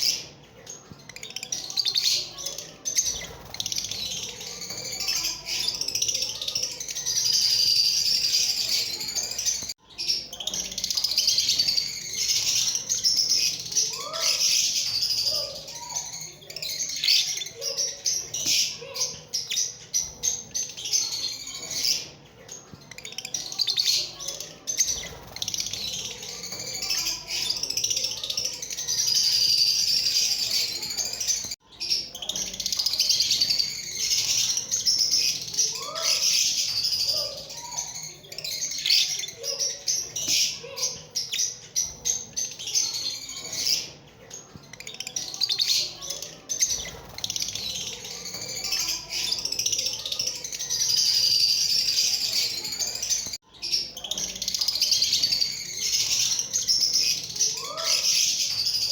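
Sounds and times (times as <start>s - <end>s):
lovebirds chirping: 0.0s - 58.9s.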